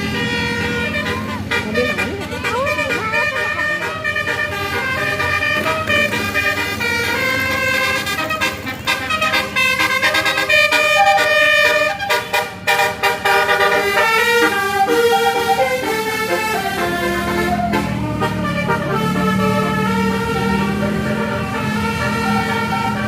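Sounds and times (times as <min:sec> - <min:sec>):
bus horn playing a melody: 0:00.0 - 0:23.0.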